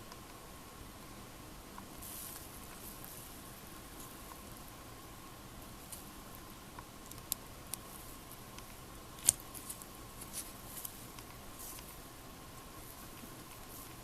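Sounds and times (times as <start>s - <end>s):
wood fire crackling: 0.0s - 14.0s
fire snap: 1.8s - 14.0s.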